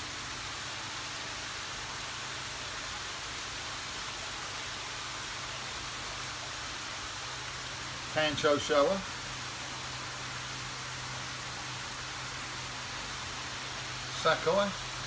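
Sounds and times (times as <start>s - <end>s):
low pump hum: 0.0s - 15.0s
running water hiss: 0.0s - 15.0s.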